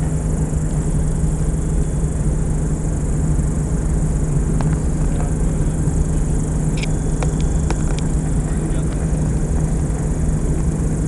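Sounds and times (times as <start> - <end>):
aircraft engines humming: 0.0 - 11.0.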